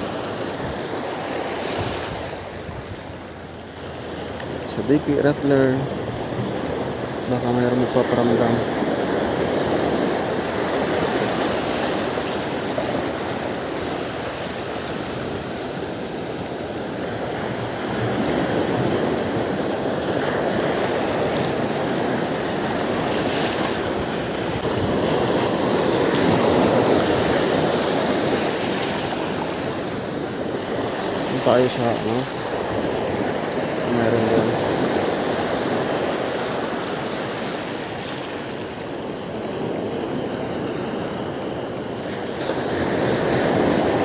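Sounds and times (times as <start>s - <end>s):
sea waves breaking on shore: 0.0s - 44.0s.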